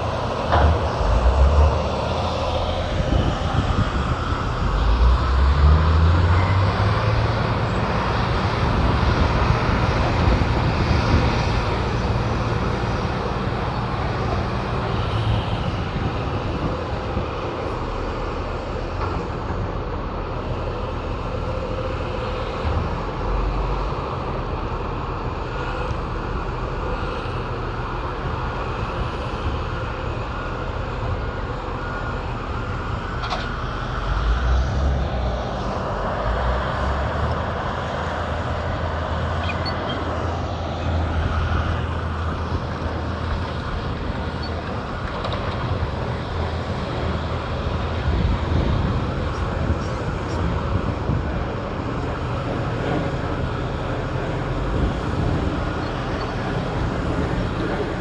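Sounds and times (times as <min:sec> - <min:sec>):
diesel machinery engine drone: 0:00.0 - 0:58.0.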